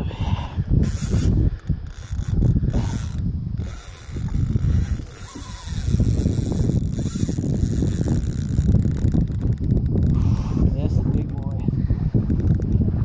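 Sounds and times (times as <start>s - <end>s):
fishing reel clicking and whirring: 0.8s - 11.7s, 12.3s - 12.8s.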